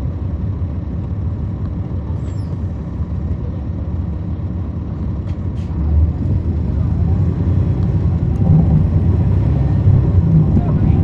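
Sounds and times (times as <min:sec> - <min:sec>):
bus diesel engine rumbling: 0:00.0 - 0:11.0.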